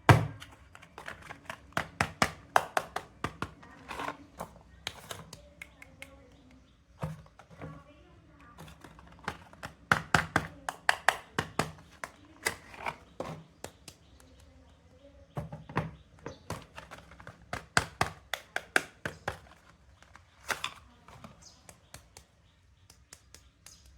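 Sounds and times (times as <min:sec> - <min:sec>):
soap bars and packaging tapping: 0:00.0 - 0:23.9.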